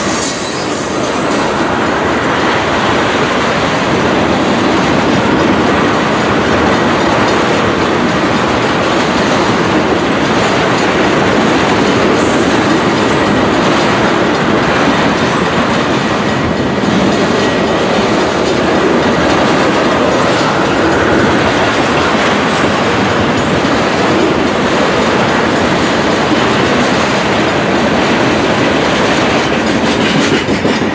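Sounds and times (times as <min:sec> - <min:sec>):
freight train rumbling past: 0:00.0 - 0:30.9.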